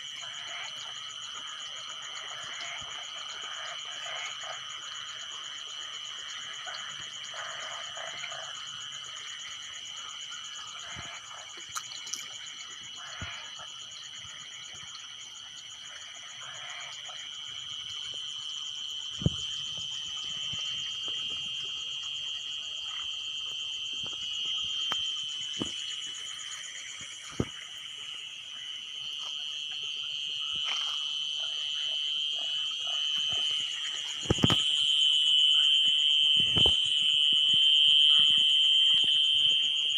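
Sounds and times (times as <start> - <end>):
frogs croaking: 0.0 - 39.9
high-pitched insect drone: 0.0 - 39.9.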